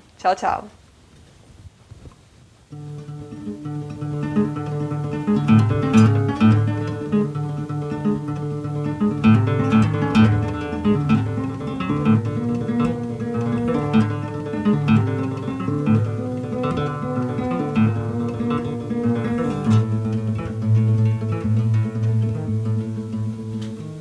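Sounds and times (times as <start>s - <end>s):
solo classical guitar: 2.1s - 24.0s.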